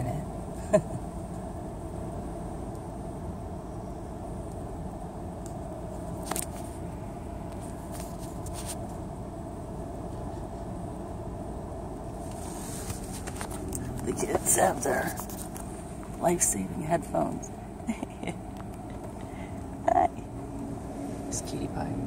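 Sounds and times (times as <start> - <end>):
car idling hum: 0.0 - 22.0.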